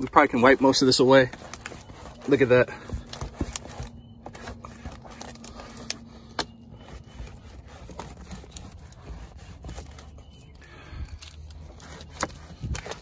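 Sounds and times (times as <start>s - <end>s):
towel wiping siding: 0.0s - 10.5s.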